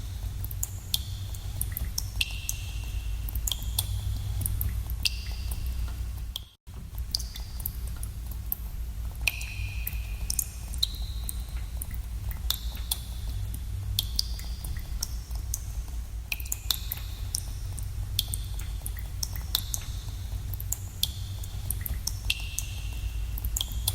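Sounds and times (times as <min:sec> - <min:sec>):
steady low rumble: 0:00.0 - 0:23.9
water drops plinking in cave: 0:00.1 - 0:08.6, 0:09.2 - 0:23.9.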